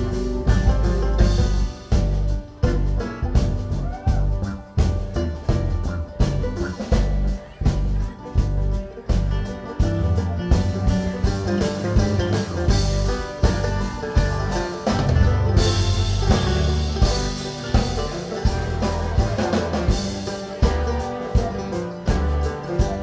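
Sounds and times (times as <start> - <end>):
drum kit beat: 0.0 - 23.0
strummed guitar: 0.0 - 23.0.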